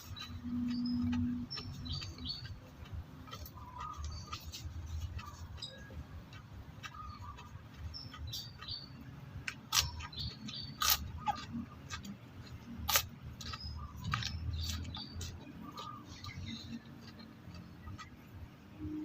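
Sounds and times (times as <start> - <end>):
close-up chewing with crunches: 0.0 - 18.4
small birds chirping: 0.0 - 19.0.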